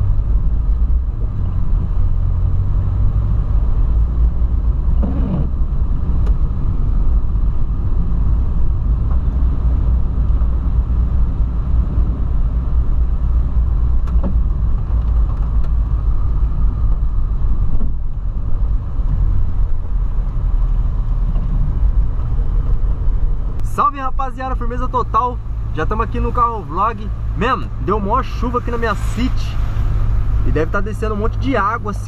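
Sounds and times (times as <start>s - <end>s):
car driving on wet road: 0.0s - 32.0s.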